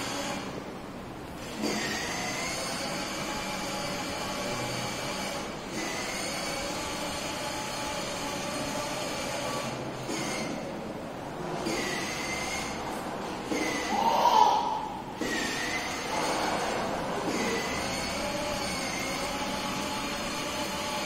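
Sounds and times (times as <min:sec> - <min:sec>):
toy car mechanical hum: 0:00.0 - 0:00.6, 0:01.3 - 0:21.0.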